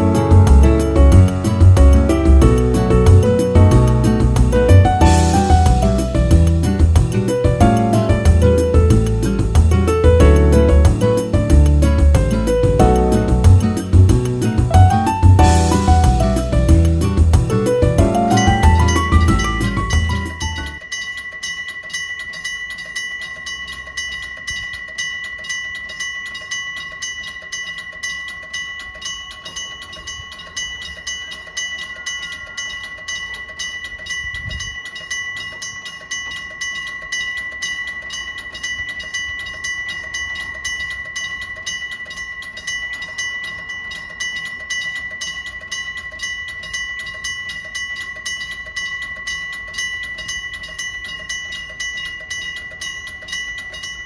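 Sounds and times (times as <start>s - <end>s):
level crossing bell ringing: 0.0s - 54.0s.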